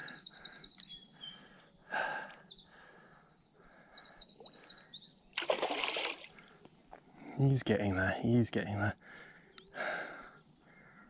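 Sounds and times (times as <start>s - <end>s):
songbirds singing trills: 0.0s - 6.0s, 7.3s - 11.0s.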